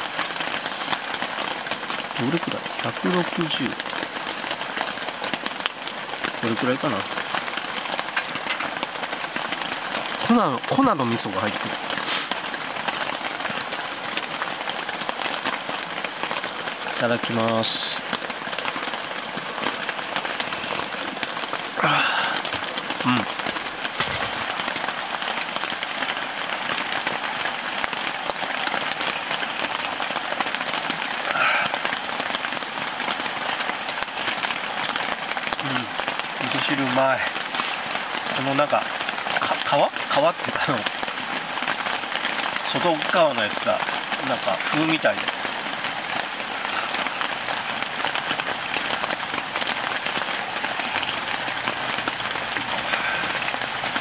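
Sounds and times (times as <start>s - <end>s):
rain pattering on tent fabric: 0.0s - 54.0s.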